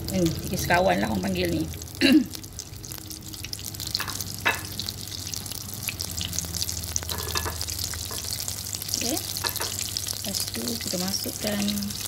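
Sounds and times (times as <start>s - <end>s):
butter sizzling in a pot: 0.0s - 12.0s
low steady hum: 0.0s - 12.0s.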